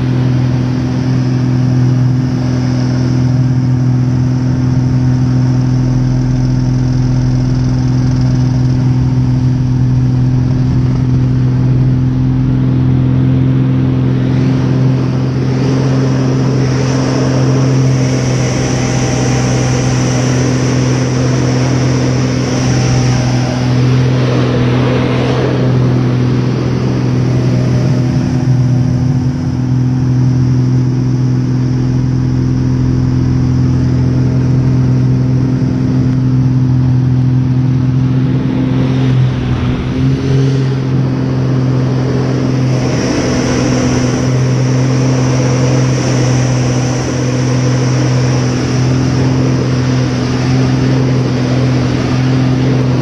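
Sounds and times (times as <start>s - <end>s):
airplane engine drone: 0.0s - 53.0s
rushing wind: 0.0s - 53.0s.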